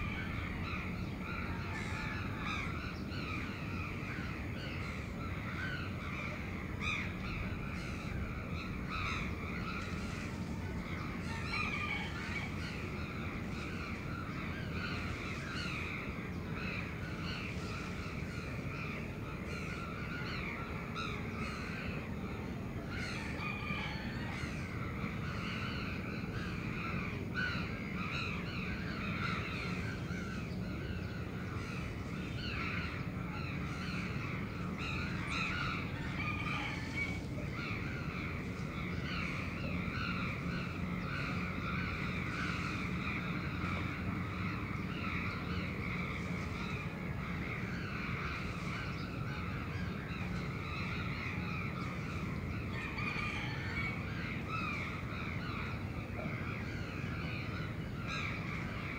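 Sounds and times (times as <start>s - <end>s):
crows cawing: 0.0s - 22.0s, 22.9s - 58.9s
low city hum: 0.0s - 58.9s.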